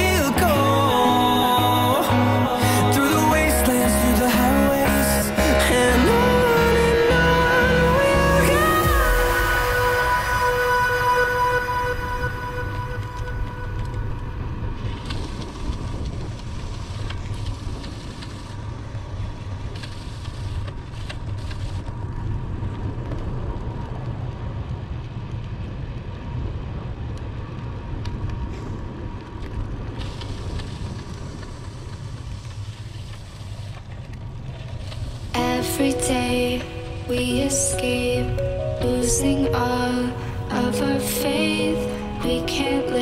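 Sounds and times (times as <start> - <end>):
road noise: 0.0 - 43.0
wind rumbling on microphone: 0.0 - 43.0.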